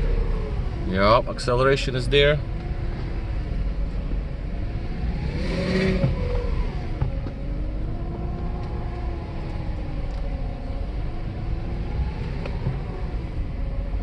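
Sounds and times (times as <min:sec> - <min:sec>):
car engine and road noise inside cabin: 0:00.0 - 0:14.0.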